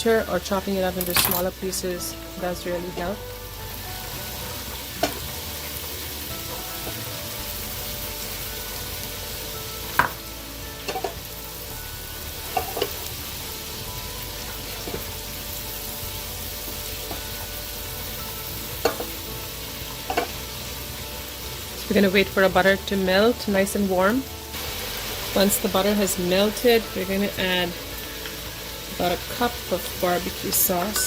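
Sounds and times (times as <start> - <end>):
hot fat sizzling: 0.0 - 31.0.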